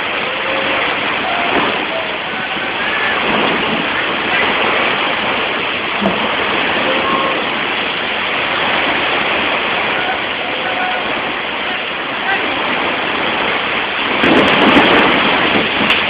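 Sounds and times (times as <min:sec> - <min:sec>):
heavy rain in strong wind: 0:00.0 - 0:16.0.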